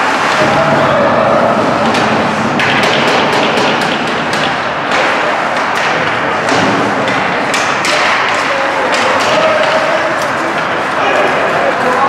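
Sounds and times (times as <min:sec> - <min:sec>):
arena noise: 0:00.0 - 0:12.0
hockey sticks and puck clacking: 0:00.0 - 0:12.0.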